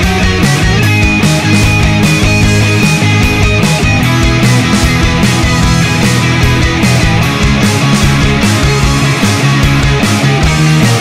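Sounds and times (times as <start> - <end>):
bass guitar: 0.0 - 11.0
drum and cymbal hits: 0.0 - 11.0
electric guitar: 0.0 - 11.0.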